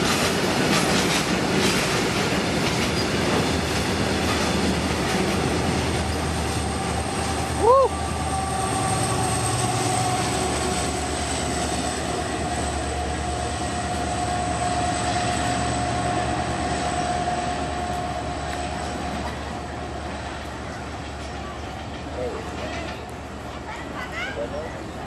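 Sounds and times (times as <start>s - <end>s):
locomotive whine: 0.0s - 23.5s
diesel locomotive rumble: 0.0s - 25.0s.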